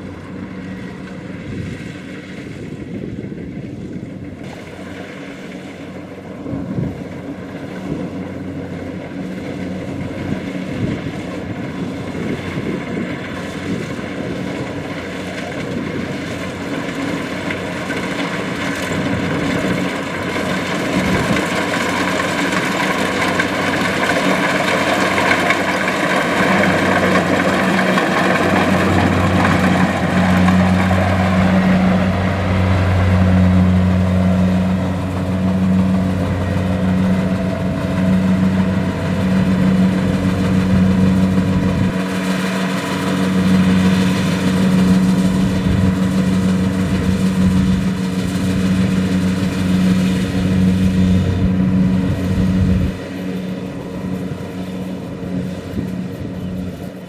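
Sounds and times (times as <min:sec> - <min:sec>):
diesel engine drone: 0:00.0 - 0:57.0
harvester machinery whir and clatter: 0:00.0 - 0:57.0.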